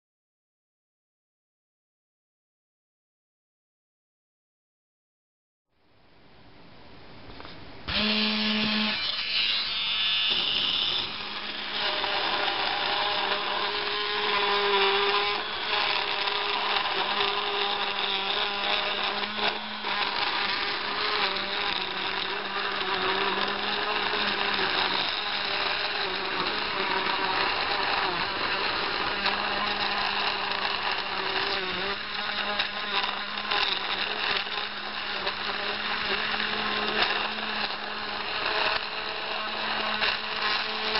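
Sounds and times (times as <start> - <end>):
router motor whining: 7.9 - 40.9.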